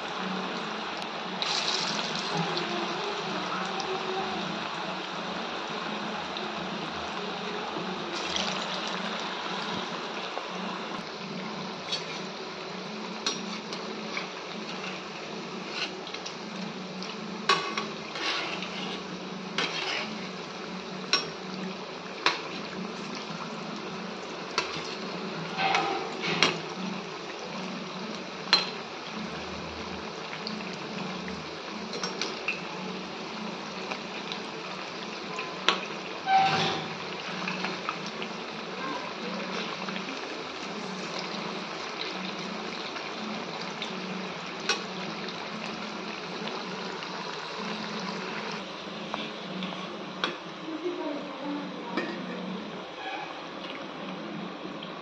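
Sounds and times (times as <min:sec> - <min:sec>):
oil sizzling: 0:00.0 - 0:51.2.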